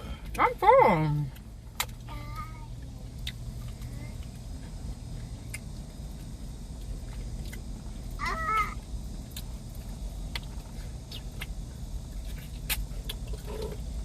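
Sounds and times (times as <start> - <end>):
car idling inside cabin: 0.0 - 14.0.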